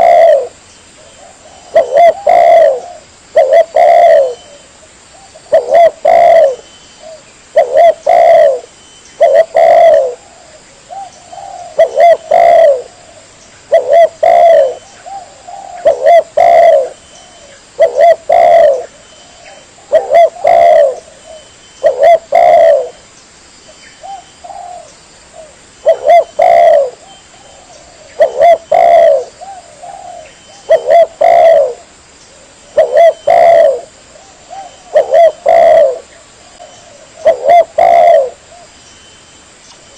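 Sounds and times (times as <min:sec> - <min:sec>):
dove cooing: 0:00.0 - 0:23.0, 0:24.0 - 0:38.7.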